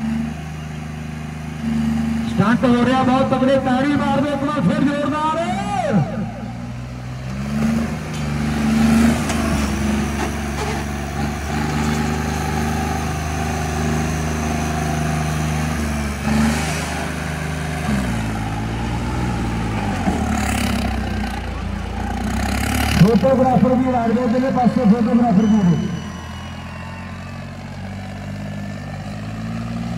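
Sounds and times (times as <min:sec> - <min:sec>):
tractor diesel engine revving: 0:00.0 - 0:29.9.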